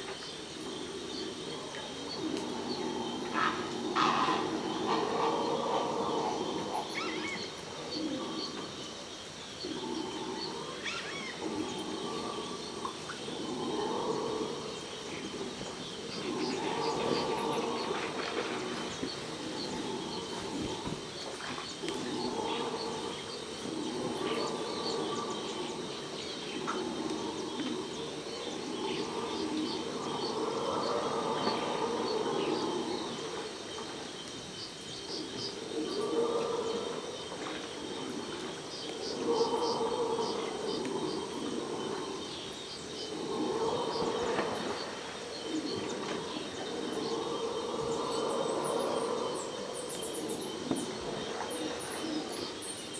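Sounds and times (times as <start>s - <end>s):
howler monkeys howling: 0.0s - 52.9s.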